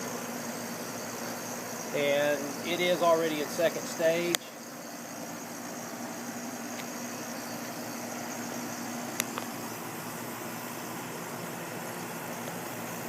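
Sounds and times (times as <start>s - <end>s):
compressor hum: 0.0s - 13.0s
condenser fan rushing air: 0.0s - 13.0s.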